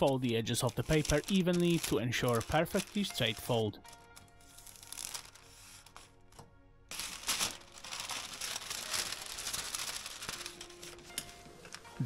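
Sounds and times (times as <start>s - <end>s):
parchment paper crinkling: 0.0s - 12.0s
soft background music: 0.0s - 12.0s.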